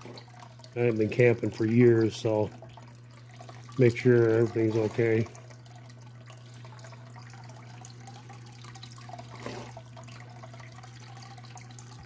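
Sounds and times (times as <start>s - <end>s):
water running and trickling: 0.0s - 12.0s.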